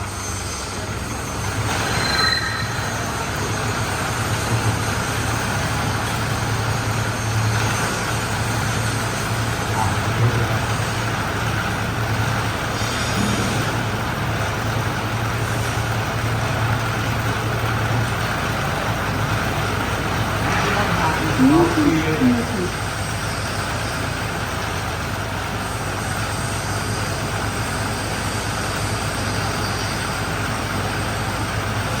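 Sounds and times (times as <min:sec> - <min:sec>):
harvester engine running: 0:00.0 - 0:32.0.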